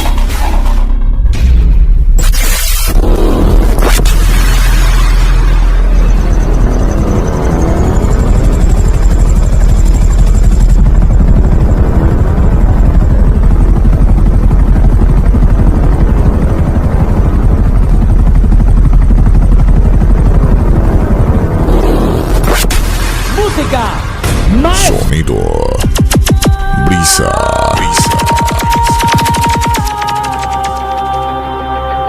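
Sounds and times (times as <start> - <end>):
helicopter rotor chop: 2.7 - 31.3.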